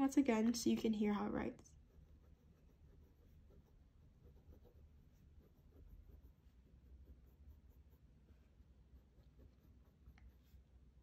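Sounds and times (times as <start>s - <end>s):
fountain pen scratching on paper: 1.7s - 10.7s.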